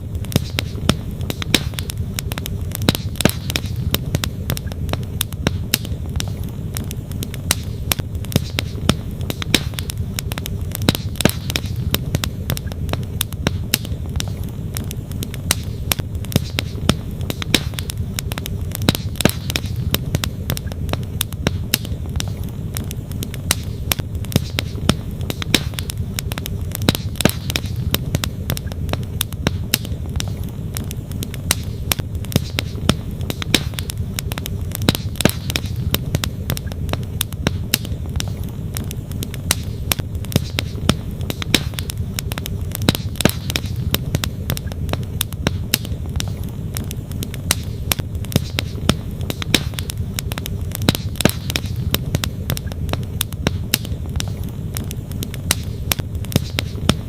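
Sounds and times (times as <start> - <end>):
burning logs popping and snapping: 0.0 - 57.0
campfire crackling: 0.0 - 57.0.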